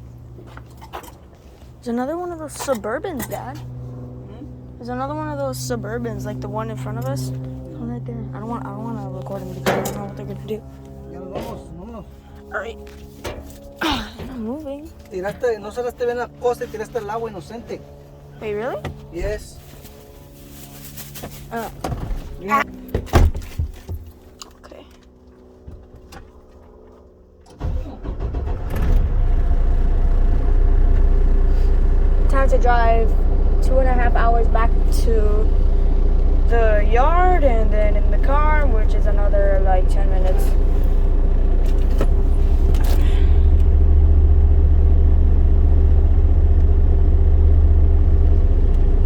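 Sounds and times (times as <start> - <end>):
truck engine starting and running: 0.0 - 19.0, 27.4 - 49.0.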